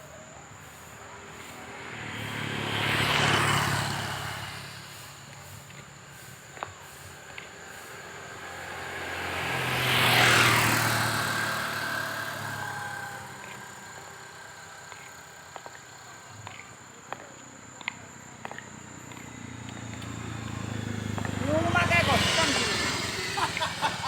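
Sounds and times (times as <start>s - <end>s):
motor vehicle passing by: 0.4s - 24.0s.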